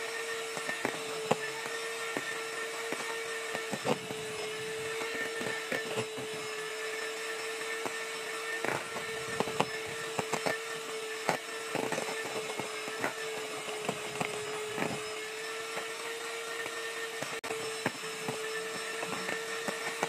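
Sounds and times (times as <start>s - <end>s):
electric mixer running: 0.0s - 20.0s.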